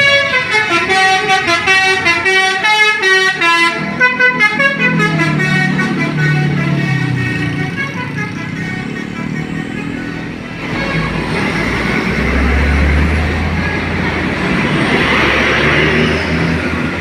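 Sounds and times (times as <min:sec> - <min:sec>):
bus driving past: 0:00.0 - 0:17.0.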